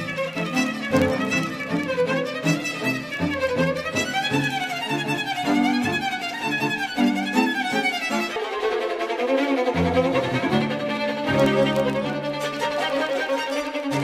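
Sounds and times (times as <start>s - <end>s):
sliding melody: 0.0s - 14.0s.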